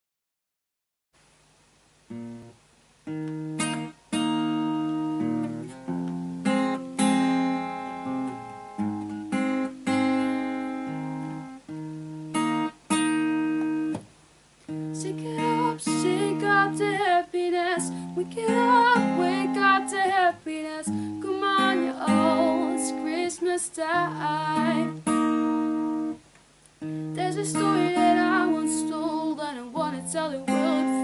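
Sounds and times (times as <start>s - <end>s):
acoustic guitar strumming chords: 2.1s - 31.0s.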